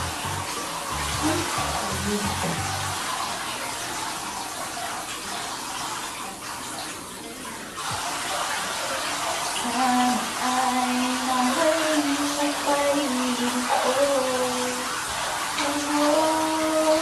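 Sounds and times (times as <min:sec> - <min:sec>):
water running into a bathtub: 0:00.0 - 0:17.0.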